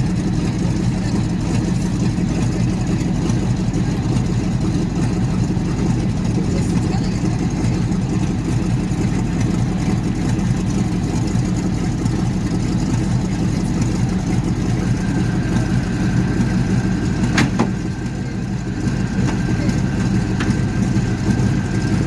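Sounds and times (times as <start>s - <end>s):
tank engine rumbling: 0.0s - 22.0s.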